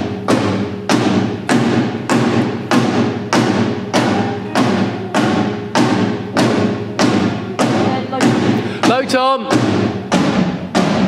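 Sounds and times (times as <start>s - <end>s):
tom drum hits ringing: 0.0s - 11.0s.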